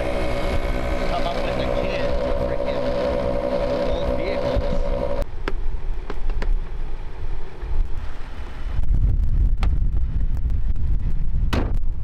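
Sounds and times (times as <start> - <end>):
wind buffeting microphone: 0.0 - 5.2, 7.3 - 12.0.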